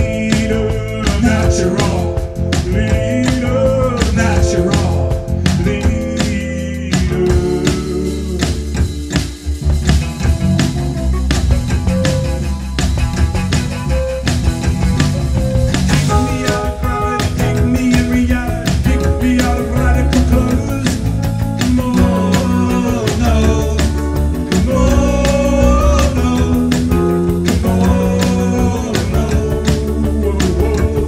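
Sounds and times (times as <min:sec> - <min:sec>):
electric bass: 0:00.0 - 0:31.0
electric guitar: 0:00.0 - 0:31.0
steady drum beat: 0:00.0 - 0:31.0
synthesizer keyboard: 0:00.0 - 0:31.0.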